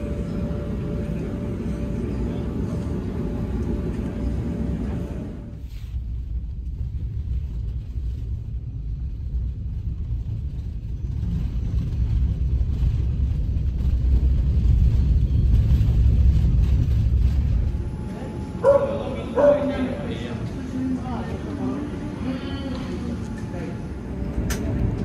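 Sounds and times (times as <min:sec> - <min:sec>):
passenger train rumbling: 0:00.0 - 0:25.0.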